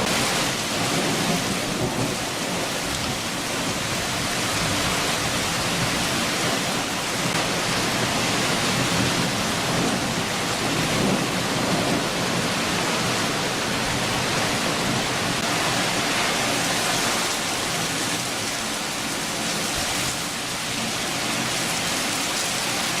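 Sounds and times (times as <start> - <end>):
thunder rumbling: 0.0 - 21.6
heavy rain: 0.0 - 23.0.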